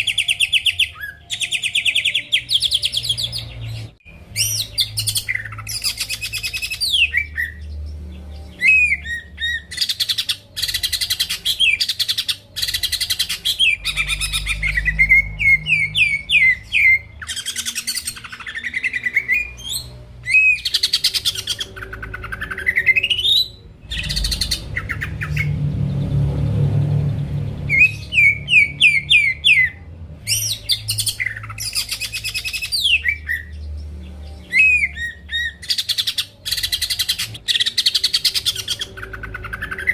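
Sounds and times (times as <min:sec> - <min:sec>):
bird whistles and chattering: 0:00.0 - 0:07.6, 0:08.5 - 0:25.6, 0:27.7 - 0:33.6, 0:34.4 - 0:39.9.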